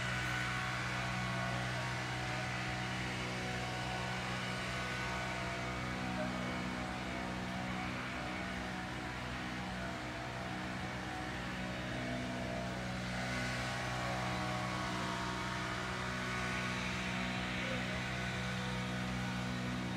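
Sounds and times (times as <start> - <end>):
mechanical engine drone: 0.0 - 19.9.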